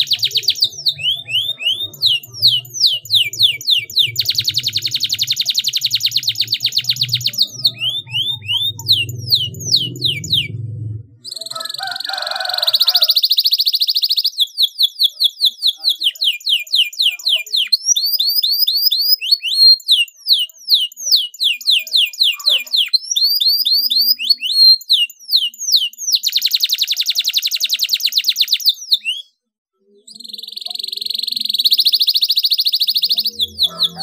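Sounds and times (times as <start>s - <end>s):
canary singing: 0.0s - 34.0s.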